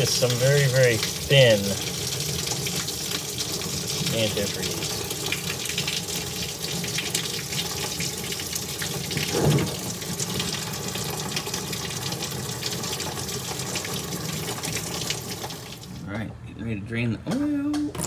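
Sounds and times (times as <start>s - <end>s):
liquid pouring and splashing: 0.0s - 16.0s.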